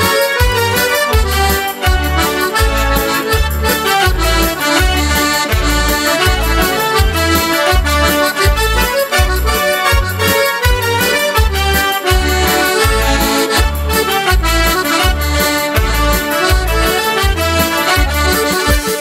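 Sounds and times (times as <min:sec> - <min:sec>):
accordion folk music: 0:00.0 - 0:19.0
steady bass beat: 0:00.0 - 0:19.0.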